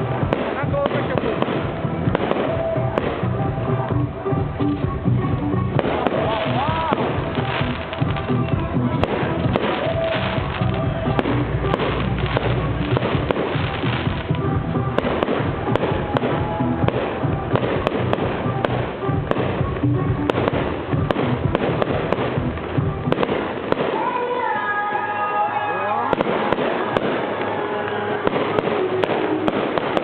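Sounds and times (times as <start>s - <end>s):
fireworks bangs and crackling: 0.0s - 30.0s
music playing: 0.0s - 30.0s.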